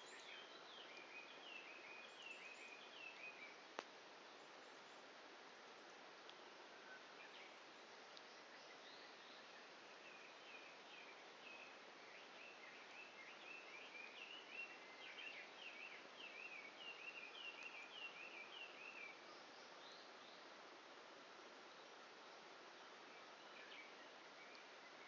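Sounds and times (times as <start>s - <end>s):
outdoor hiss: 0.0s - 25.0s
songbird chirping: 0.0s - 25.0s.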